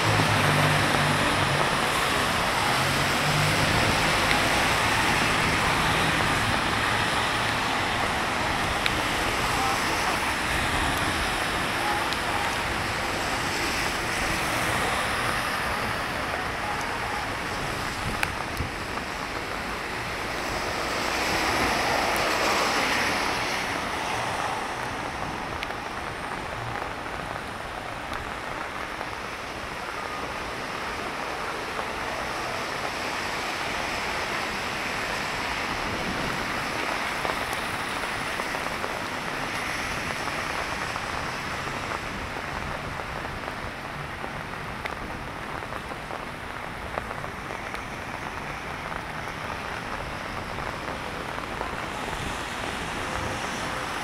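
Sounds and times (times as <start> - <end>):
car tyres hissing on wet asphalt: 0.0 - 54.0
rain on wet street: 0.0 - 54.0.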